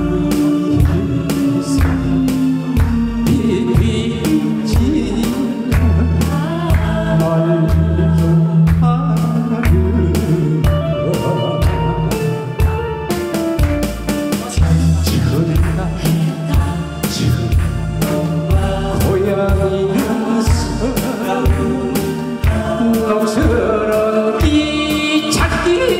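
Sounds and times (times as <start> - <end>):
man singing into microphone: 0.0 - 13.1, 14.3 - 25.9
bass and drum accompaniment: 0.0 - 25.9.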